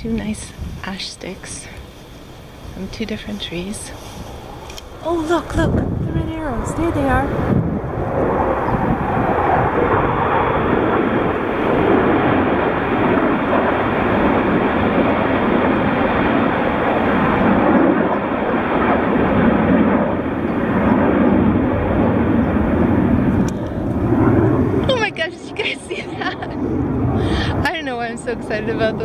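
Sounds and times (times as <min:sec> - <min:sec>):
jet aircraft roaring past: 0:00.0 - 0:29.0.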